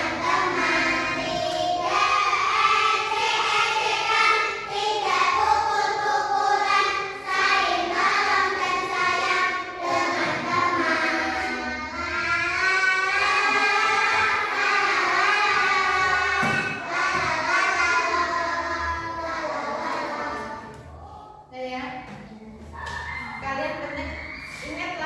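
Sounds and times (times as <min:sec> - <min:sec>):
children singing in unison: 0:00.0 - 0:21.1.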